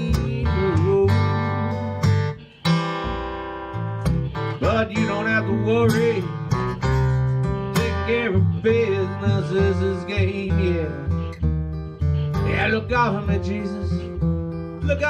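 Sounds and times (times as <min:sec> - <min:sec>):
acoustic guitar strumming: 0:00.0 - 0:15.0
washtub bass notes: 0:00.0 - 0:15.0.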